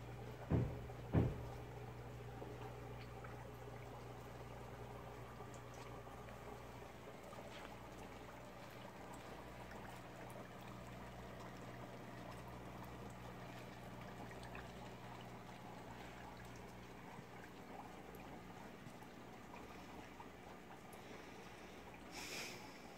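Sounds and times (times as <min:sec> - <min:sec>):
low steady hum: 0:00.0 - 0:22.9
trickle of water: 0:00.0 - 0:22.9.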